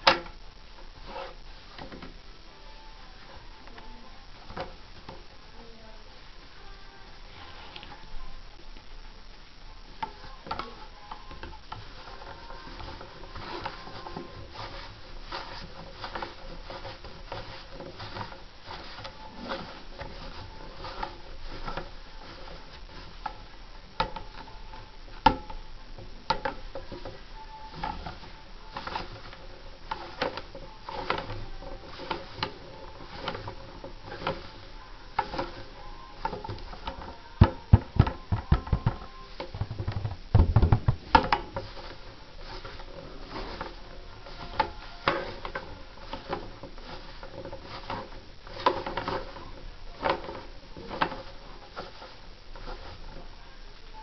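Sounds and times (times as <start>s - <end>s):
fabric rustling: 0.0s - 54.0s.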